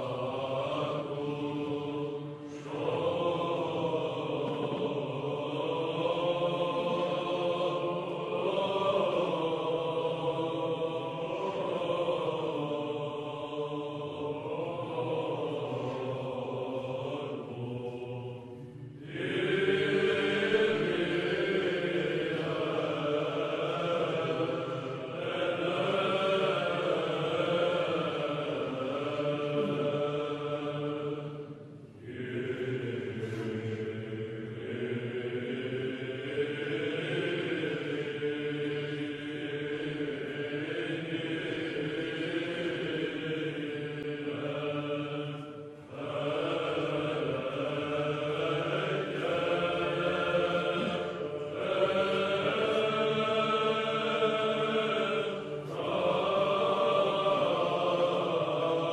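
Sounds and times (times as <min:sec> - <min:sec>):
church chant: 0:00.0 - 0:58.9.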